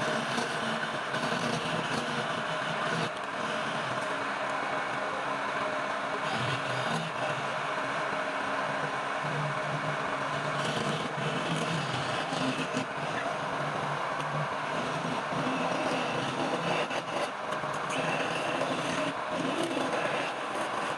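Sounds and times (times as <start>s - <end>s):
tool cutting spinning wood: 0.0s - 4.1s, 6.2s - 7.6s, 9.3s - 20.9s
lathe motor humming: 0.0s - 20.9s.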